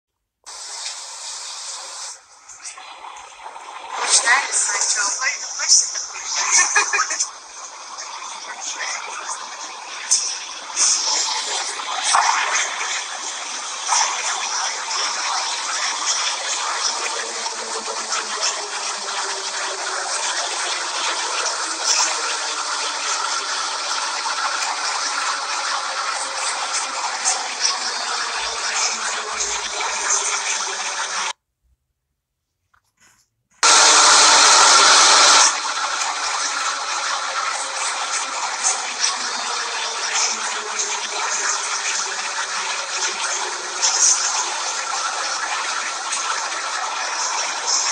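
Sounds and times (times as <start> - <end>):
subway train running: 0.5 - 31.3, 33.6 - 47.9.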